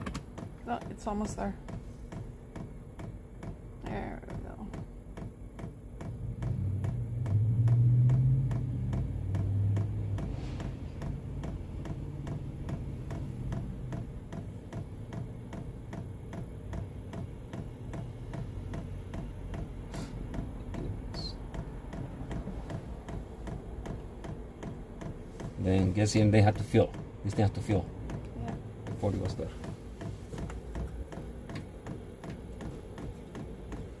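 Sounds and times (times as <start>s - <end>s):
fuel pump ticking: 0.0s - 34.0s.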